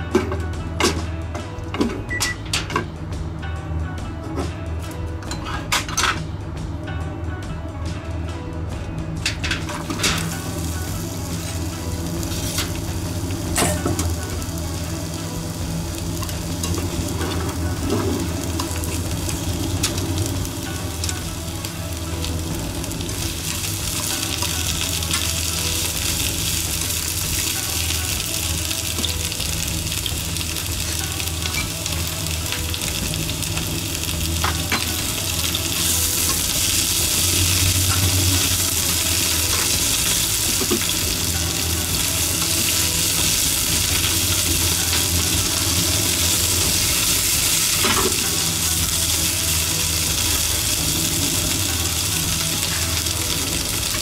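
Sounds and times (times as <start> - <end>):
peppers sizzling in frying pan: 9.3 - 54.0.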